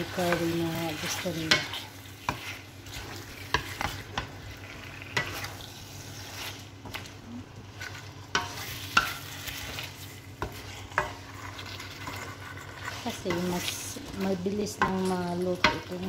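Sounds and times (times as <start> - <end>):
spatula scraping and knocking pan: 0.0 - 7.1, 7.8 - 16.0
low sizzle: 0.0 - 16.0.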